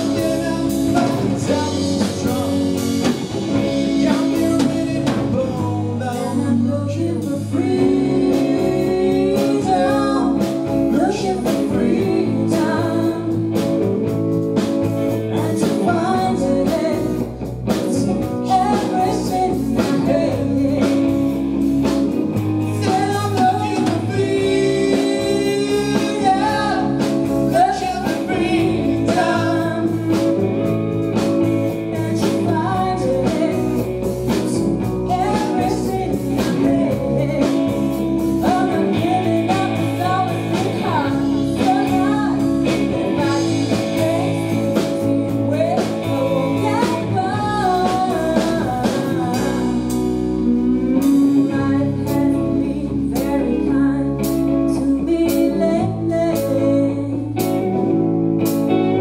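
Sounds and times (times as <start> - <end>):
woman singing: 0.0 - 14.1, 15.1 - 21.5, 22.6 - 57.9
bass guitar: 0.0 - 59.0
drums: 0.0 - 59.0
electric guitars: 0.0 - 59.0.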